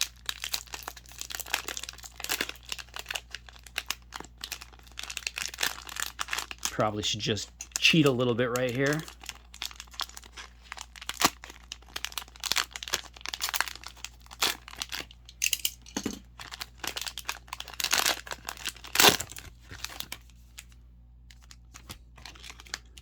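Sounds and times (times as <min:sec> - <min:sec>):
plastic wrapper crinkling and tearing: 0:00.0 - 0:23.0.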